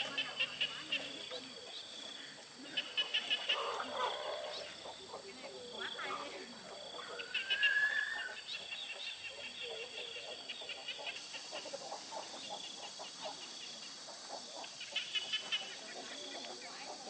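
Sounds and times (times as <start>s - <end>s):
chickens clucking and cheeping: 0.0s - 17.0s.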